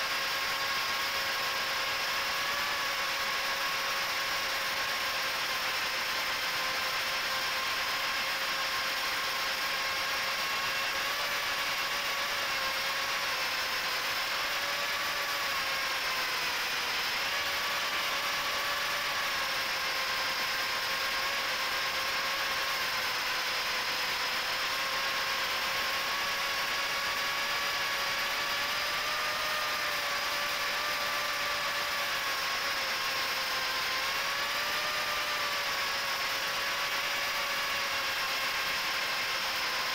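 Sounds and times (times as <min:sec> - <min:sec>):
drone motors buzzing whine: 0:00.0 - 0:39.9.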